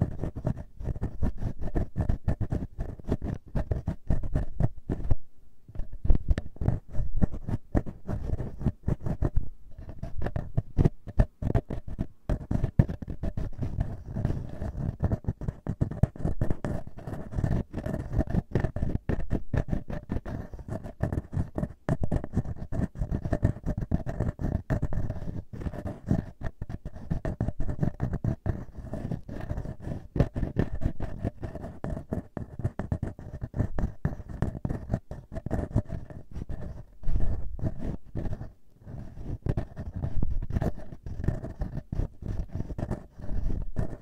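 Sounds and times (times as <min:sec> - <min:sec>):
fingers scratching microphone grille: 0:00.0 - 0:44.0.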